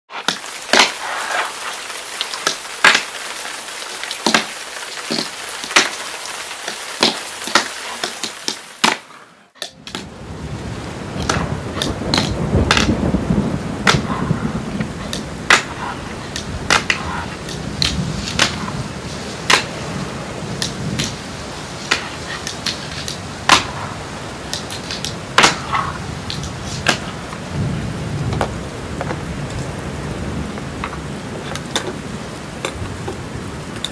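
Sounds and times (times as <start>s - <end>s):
small wheels rolling: 0.1s - 33.9s
steady hiss: 0.1s - 33.9s.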